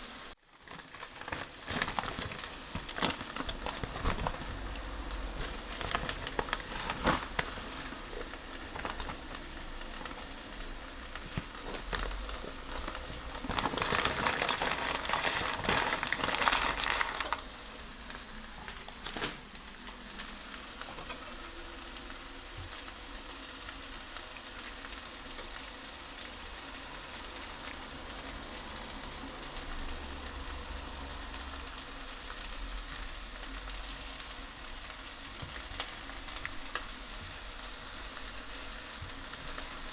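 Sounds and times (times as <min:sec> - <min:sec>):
crackles of frying: 0:00.0 - 0:39.9
food sizzling in a hot pan: 0:00.0 - 0:39.9.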